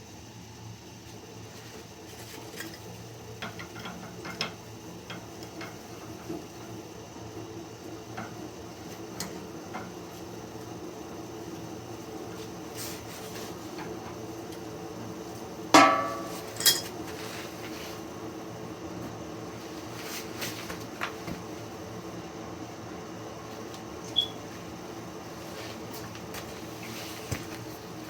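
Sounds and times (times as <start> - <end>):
steam boiler humming: 0.0 - 28.0.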